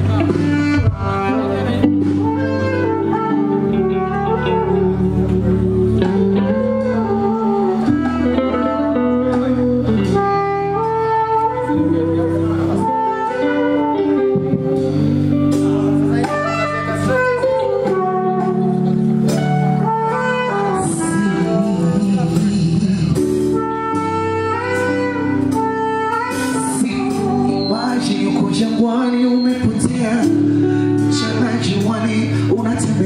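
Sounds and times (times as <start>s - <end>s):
melodic music over loudspeakers: 0.0s - 33.0s.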